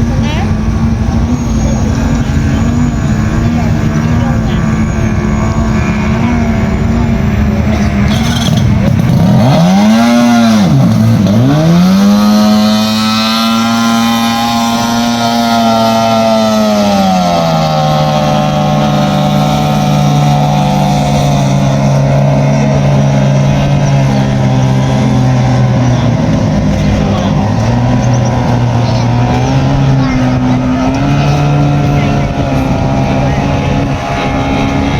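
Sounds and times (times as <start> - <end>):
powerboat engine revving: 0.0 - 34.9.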